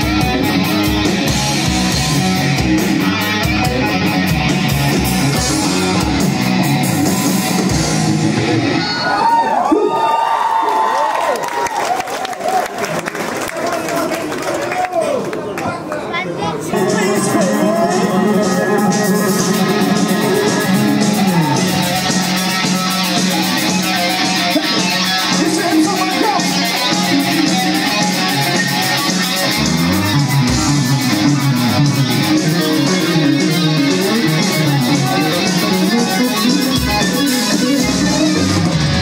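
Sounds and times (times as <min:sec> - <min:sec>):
bass guitar: 0:00.0 - 0:09.2, 0:16.7 - 0:39.0
electric guitars: 0:00.0 - 0:09.5, 0:16.6 - 0:39.0
drums: 0:00.0 - 0:09.6, 0:16.7 - 0:39.0.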